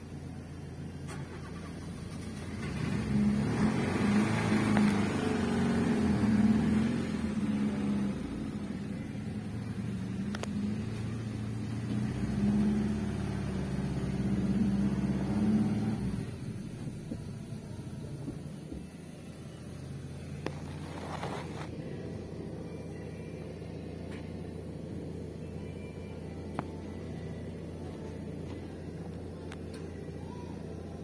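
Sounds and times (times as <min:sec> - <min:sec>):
small car engine revving: 0:00.8 - 0:18.8, 0:19.8 - 0:31.0.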